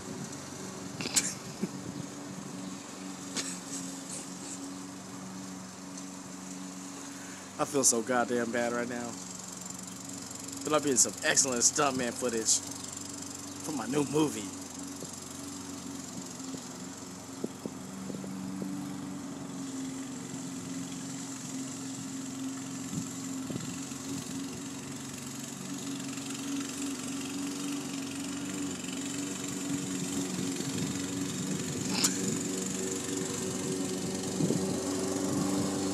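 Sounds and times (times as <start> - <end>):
lawn mower engine running: 0.0 - 35.9.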